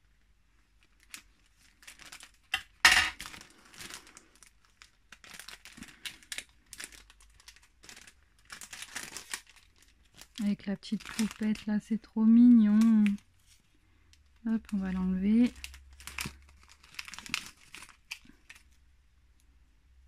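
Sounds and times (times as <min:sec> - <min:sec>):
paper packaging crinkling: 0:00.6 - 0:18.8.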